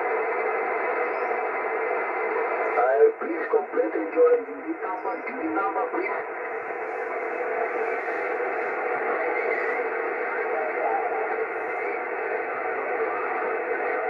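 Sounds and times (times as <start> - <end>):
faint garbled radio voices: 0.0 - 14.0
radio static hiss: 0.0 - 14.0.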